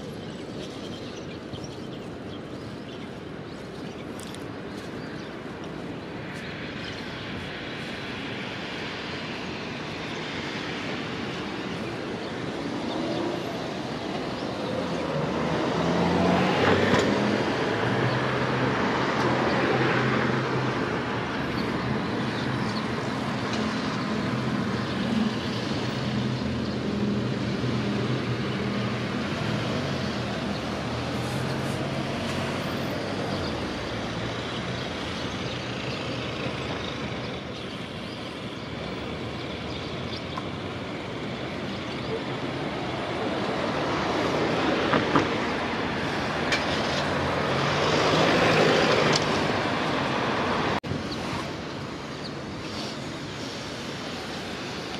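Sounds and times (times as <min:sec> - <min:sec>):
passing road traffic: 0:00.0 - 0:54.9.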